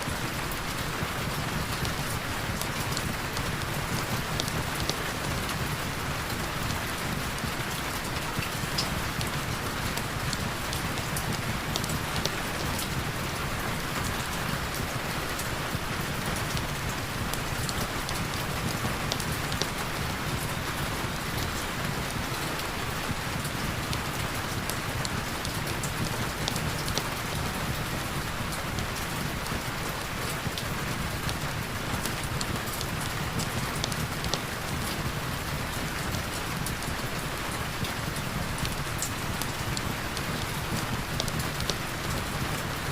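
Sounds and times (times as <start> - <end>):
raindrop ticks: 0.1 - 42.9.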